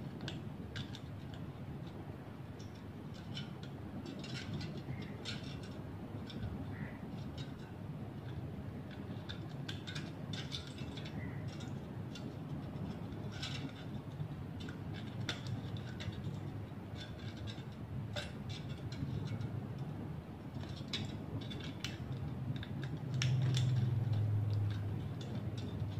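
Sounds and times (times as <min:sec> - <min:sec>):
steady low hum: 0:00.0 - 0:25.9
thin metal strips clicking: 0:00.0 - 0:25.9.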